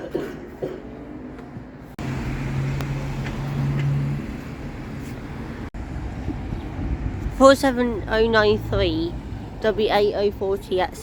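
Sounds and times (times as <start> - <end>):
street traffic noise: 0.0 - 11.0
bus engine running: 1.9 - 11.0.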